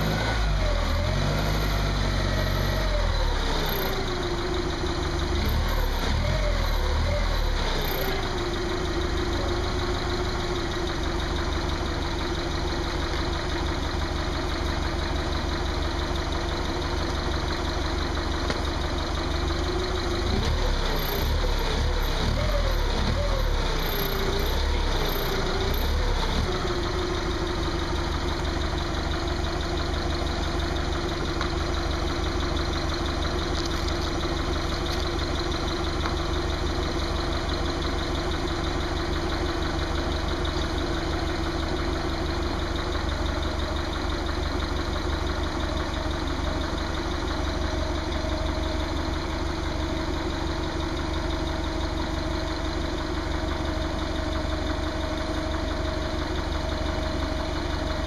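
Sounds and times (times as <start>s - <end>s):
forklift engine revving and idling: 0.0s - 58.0s.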